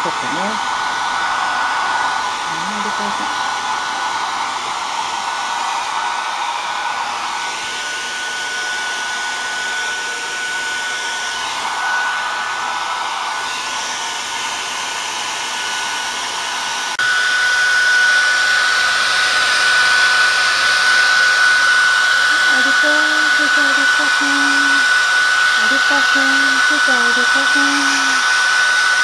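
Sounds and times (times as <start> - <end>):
hair dryer blowing: 0.0 - 29.0.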